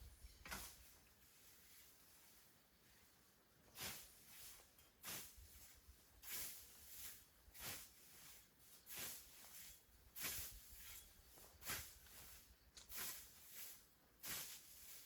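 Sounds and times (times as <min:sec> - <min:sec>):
scythe swishing through grass: 0:00.2 - 0:02.5, 0:03.6 - 0:15.0.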